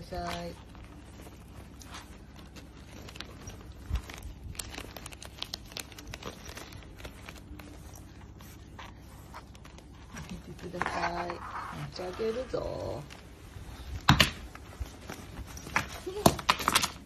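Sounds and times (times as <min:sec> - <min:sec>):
crinkling: 0:00.0 - 0:17.0.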